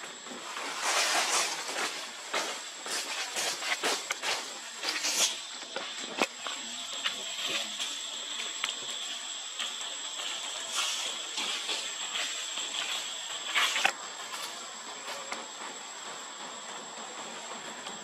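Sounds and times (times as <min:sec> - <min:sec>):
insect drone: 0:00.0 - 0:18.0
dry leaves rustling: 0:00.3 - 0:15.3.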